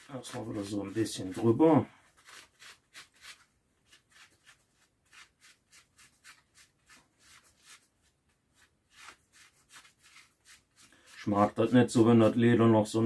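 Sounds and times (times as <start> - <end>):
gloved hand rubbing leather: 0.0 - 12.2.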